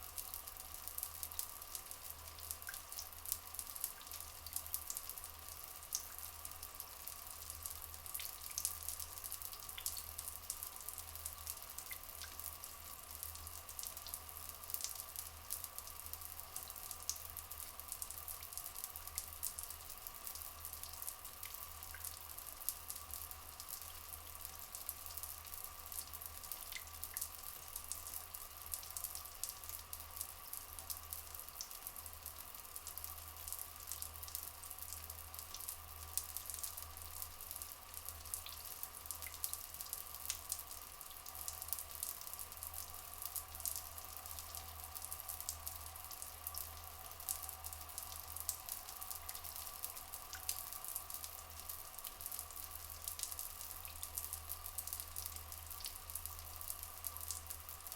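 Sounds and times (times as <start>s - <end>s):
water trickling with drips: 0.0s - 57.9s.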